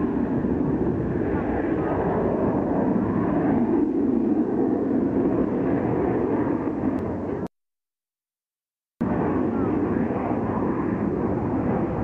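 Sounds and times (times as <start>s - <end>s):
aircraft engines flying overhead: 0.0s - 7.5s, 9.0s - 12.0s.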